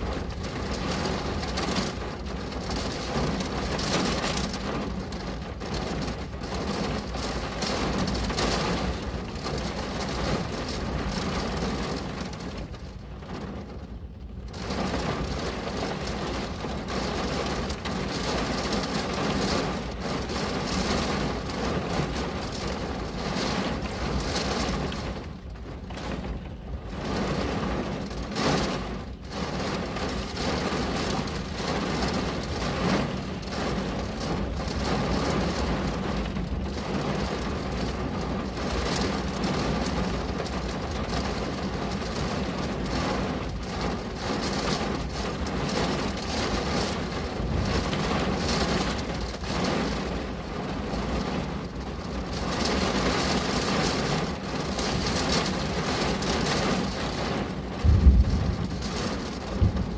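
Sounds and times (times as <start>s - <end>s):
rain pattering on window: 0.0s - 59.9s.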